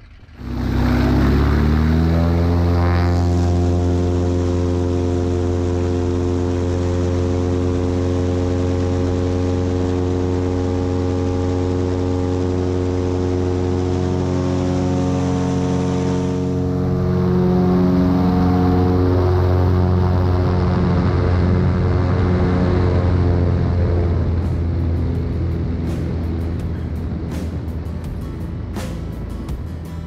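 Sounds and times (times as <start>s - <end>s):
airplane engine and propeller drone: 0.0s - 30.0s.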